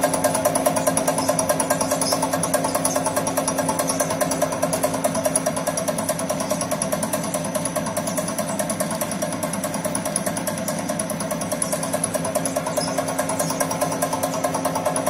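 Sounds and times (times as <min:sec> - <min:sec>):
snack extruder humming and pulsing: 0:00.0 - 0:15.0.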